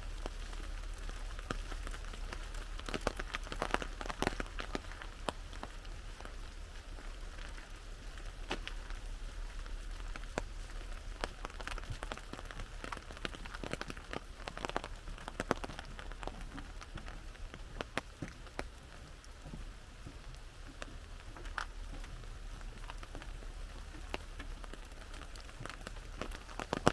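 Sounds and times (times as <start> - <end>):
rain on an umbrella: 0.0 - 26.9.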